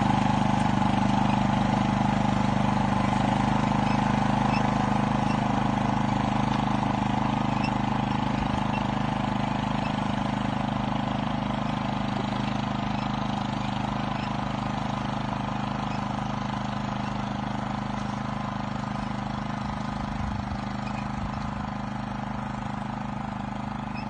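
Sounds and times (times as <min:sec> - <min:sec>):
small harvester engine running: 0:00.0 - 0:24.0.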